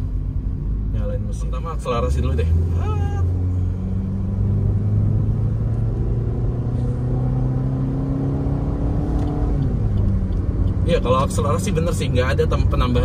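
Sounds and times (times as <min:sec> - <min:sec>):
car engine accelerating: 0:00.0 - 0:13.0
low road rumble: 0:00.0 - 0:13.0.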